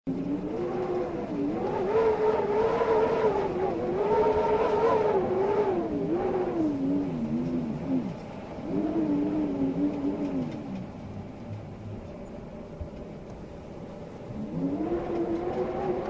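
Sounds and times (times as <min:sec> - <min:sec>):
wind howling: 0:00.1 - 0:16.0.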